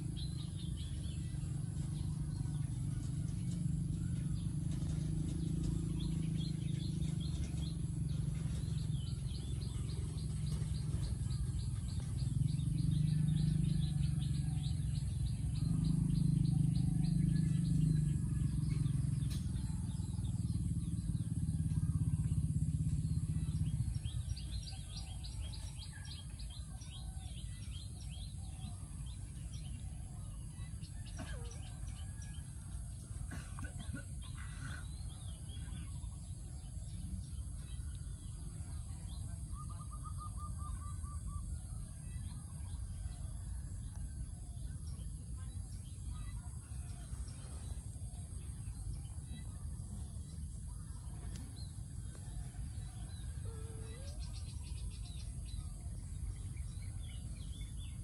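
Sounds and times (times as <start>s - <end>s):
low steady drone: 0.0s - 58.0s
small birds chirping: 0.0s - 58.0s.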